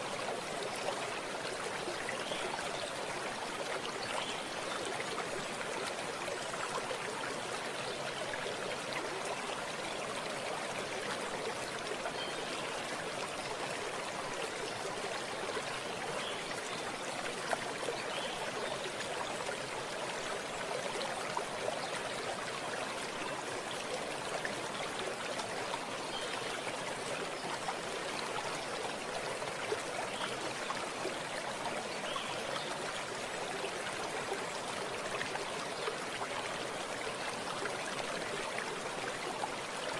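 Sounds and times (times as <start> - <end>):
stream water running over stones: 0.0 - 39.9.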